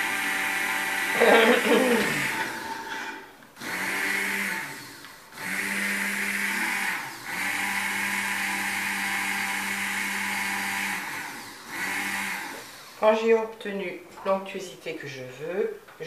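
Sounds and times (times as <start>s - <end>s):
stick blender running: 0.0s - 13.3s.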